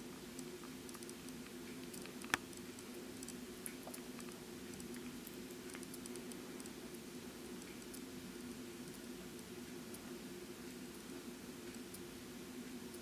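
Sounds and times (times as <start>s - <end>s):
clock faint hum: 0.1s - 13.0s
faint clock ticks: 0.2s - 13.0s.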